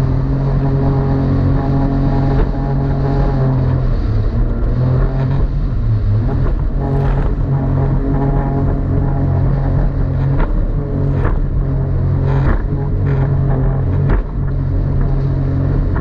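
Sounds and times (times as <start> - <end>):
jet ski engine running: 0.0 - 16.0
rushing water: 0.0 - 16.0
wind noise: 0.0 - 16.0.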